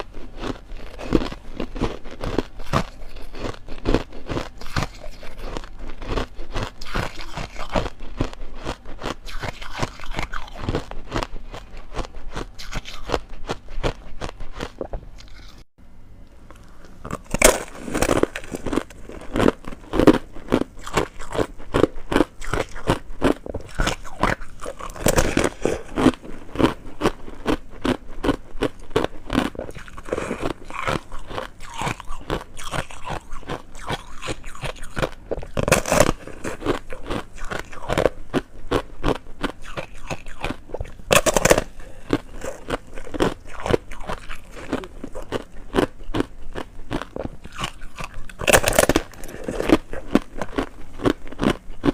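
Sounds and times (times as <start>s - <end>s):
crunching and chewing ice: 0.0s - 15.7s, 16.5s - 51.9s.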